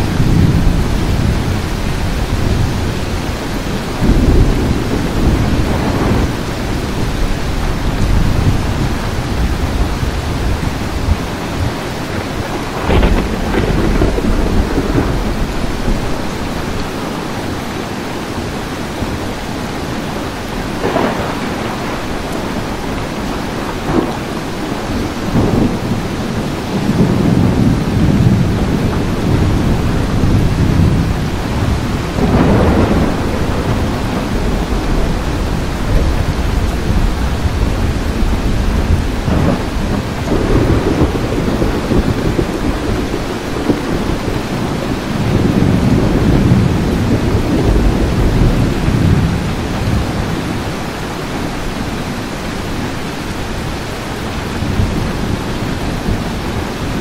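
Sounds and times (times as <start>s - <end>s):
rolling thunder: 0.0s - 17.7s, 18.5s - 57.0s
steady rain: 0.0s - 57.0s.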